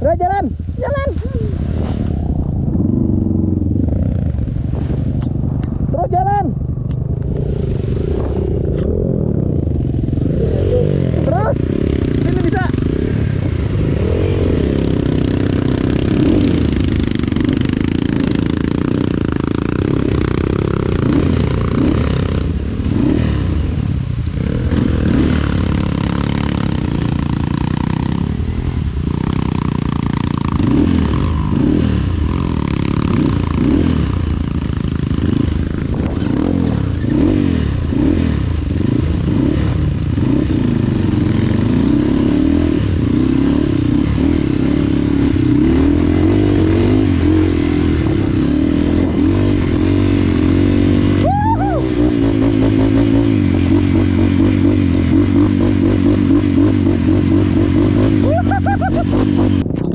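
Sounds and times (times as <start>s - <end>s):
motorcycle engine revving hard: 0.8s - 59.9s.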